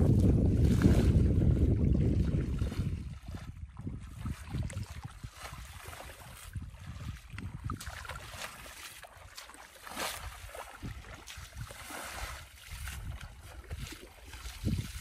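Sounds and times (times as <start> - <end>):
wind rumbling on microphone: 0.0 - 9.4, 10.0 - 15.0
feet splashing through water: 0.0 - 15.0.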